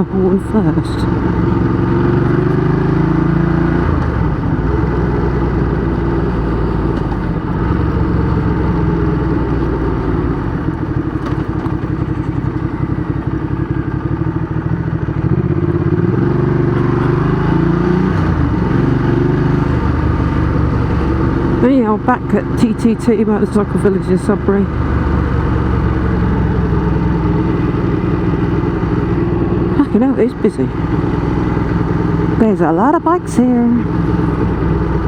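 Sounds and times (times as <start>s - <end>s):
loud motorcycle engine: 0.0s - 35.0s.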